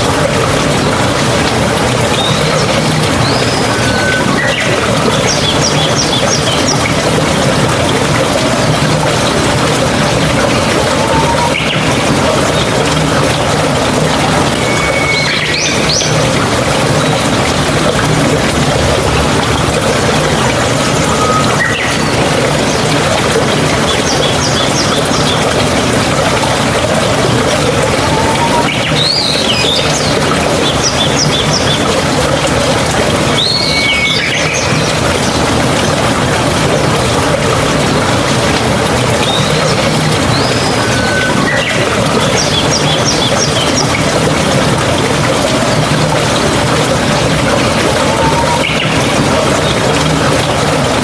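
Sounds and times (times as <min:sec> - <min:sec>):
babbling stream water: 0:00.0 - 0:51.0
birds chirping: 0:00.1 - 0:18.1, 0:19.7 - 0:37.5, 0:38.1 - 0:50.8.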